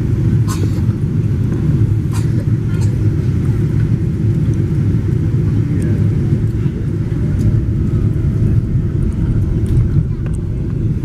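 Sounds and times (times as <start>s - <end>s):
airplane landing rumble: 0.0s - 11.0s.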